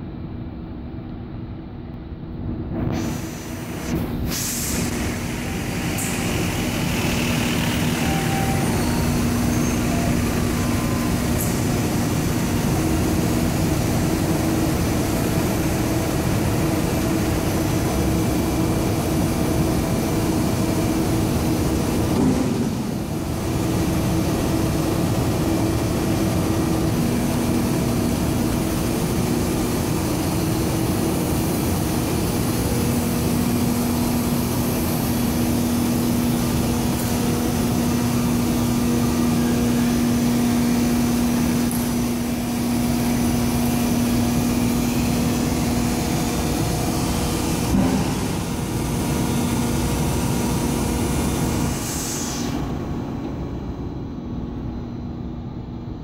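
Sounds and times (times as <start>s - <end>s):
production-line machinery drone: 2.1s - 56.0s.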